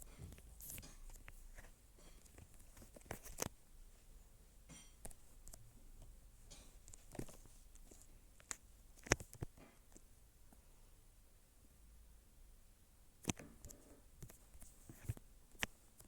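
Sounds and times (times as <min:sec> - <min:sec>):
faint clicks and taps: 0:00.0 - 0:04.1, 0:04.7 - 0:10.7, 0:13.2 - 0:16.0.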